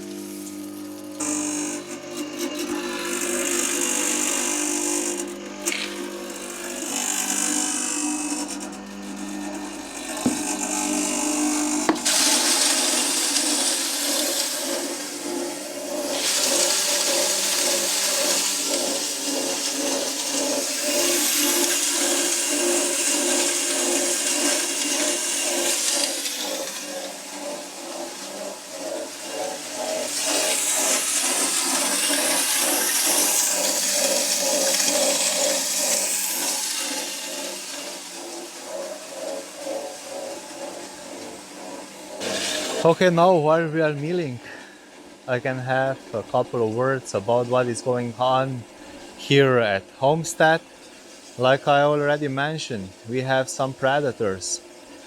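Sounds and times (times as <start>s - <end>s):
grain mill humming: 0.0s - 55.0s.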